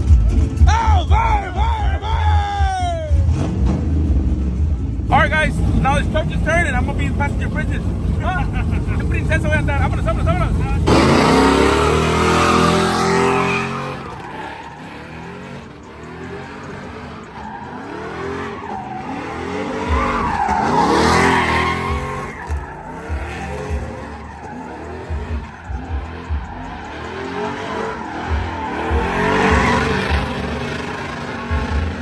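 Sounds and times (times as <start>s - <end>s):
tires squealing: 0.0s - 32.0s
truck engine revving: 3.0s - 32.0s.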